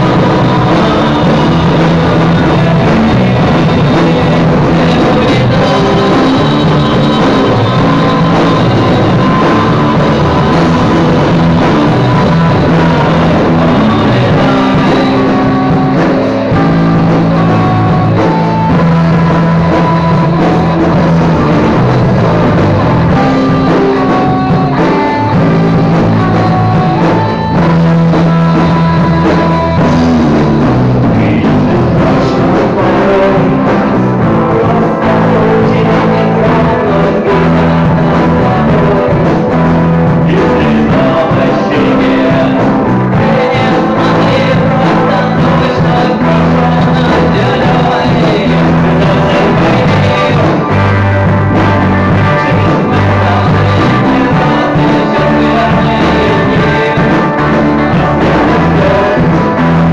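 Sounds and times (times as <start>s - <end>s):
electric guitar melody: 0.0s - 59.9s
rock band playing: 0.0s - 59.9s.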